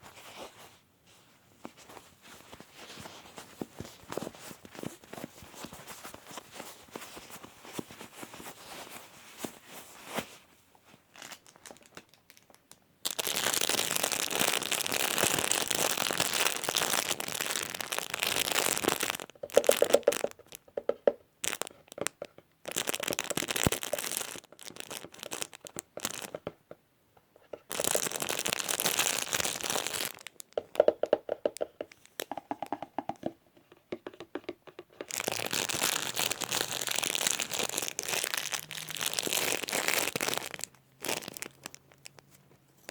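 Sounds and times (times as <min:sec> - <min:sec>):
crinkly material crackling: 0:00.0 - 0:26.6, 0:27.3 - 0:30.9, 0:34.9 - 0:42.9.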